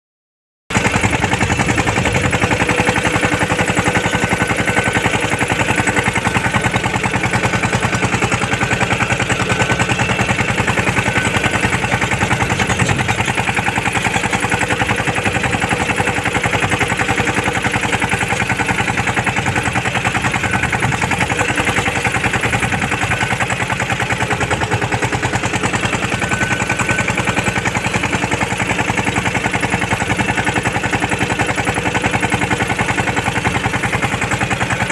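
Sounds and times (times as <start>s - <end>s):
tractor diesel engine running: 0.7s - 34.9s.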